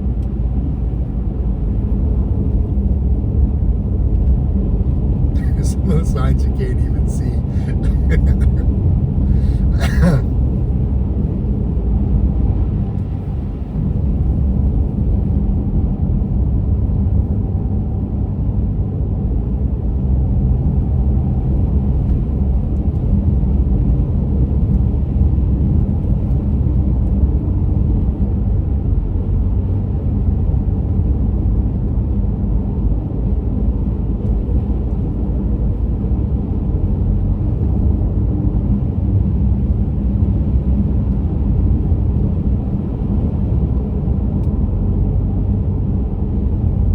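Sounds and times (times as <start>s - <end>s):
car driving road rumble: 0.0s - 46.9s.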